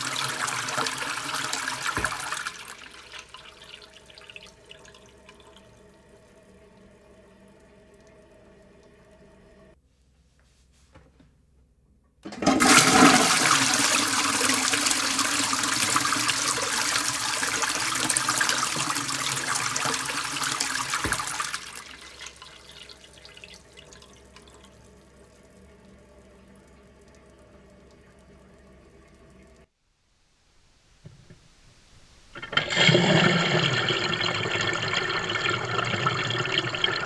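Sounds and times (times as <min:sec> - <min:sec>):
toilet flushing: 0:00.0 - 0:09.8, 0:12.2 - 0:29.7, 0:32.2 - 0:37.0
water running: 0:00.0 - 0:09.8, 0:12.2 - 0:29.7, 0:31.0 - 0:37.0.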